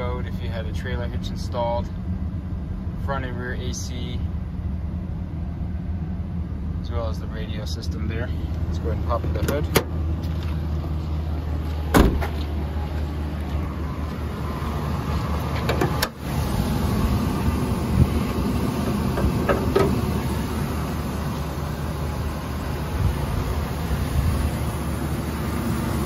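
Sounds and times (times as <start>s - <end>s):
van engine idling: 0.0s - 26.0s.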